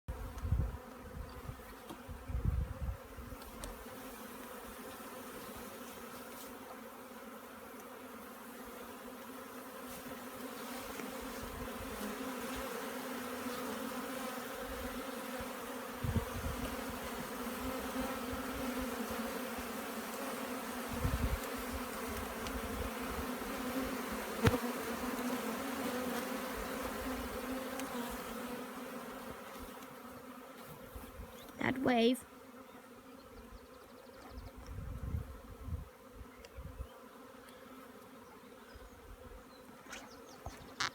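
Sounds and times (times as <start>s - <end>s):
bees buzzing: 0.1s - 34.6s.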